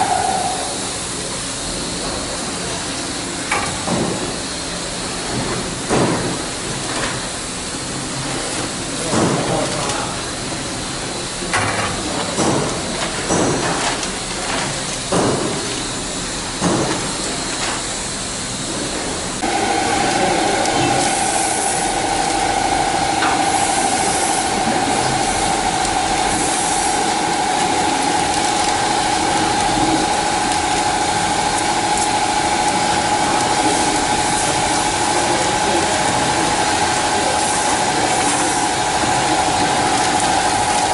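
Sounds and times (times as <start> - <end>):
packaging machine whine: 0.0 - 40.9.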